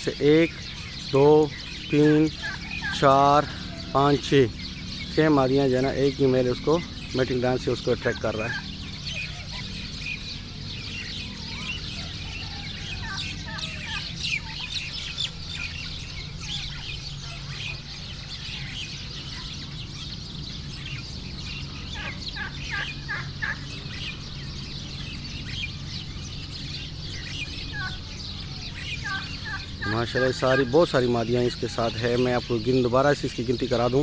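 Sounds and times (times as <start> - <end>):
turkeys clucking and yelping: 0.0 - 34.0.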